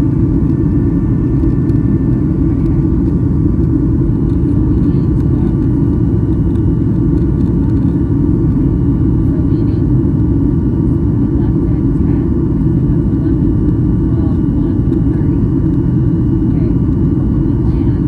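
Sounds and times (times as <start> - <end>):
airplane cabin rumble: 0.0 - 18.0
faint engine whine: 0.0 - 18.0.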